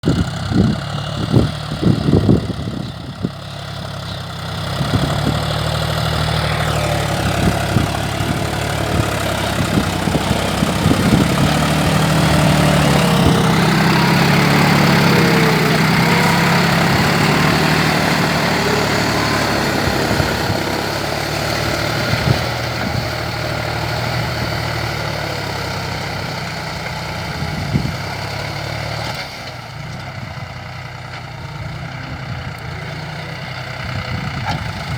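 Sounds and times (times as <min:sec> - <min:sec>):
engine knocks: 0:00.0 - 0:29.5
tractor diesel engine running: 0:00.0 - 0:34.9.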